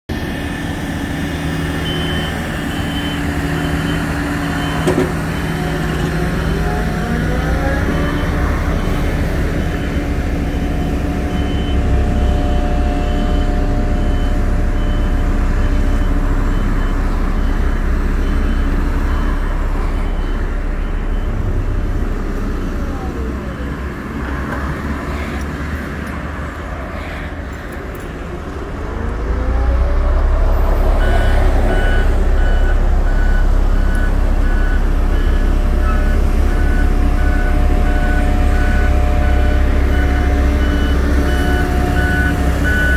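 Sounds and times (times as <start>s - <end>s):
diesel truck engine running: 0.1s - 42.9s
reversing alarm beeping: 1.2s - 23.9s, 30.5s - 42.9s
lower-pitched reversing beeper: 1.3s - 23.8s, 29.2s - 42.9s.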